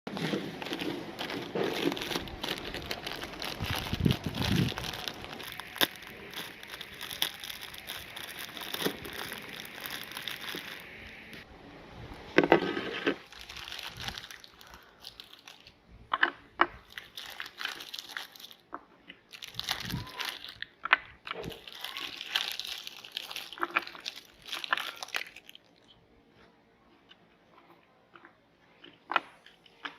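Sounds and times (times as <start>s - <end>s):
packaging crinkling and rustling: 0.1s - 11.4s, 12.4s - 25.9s.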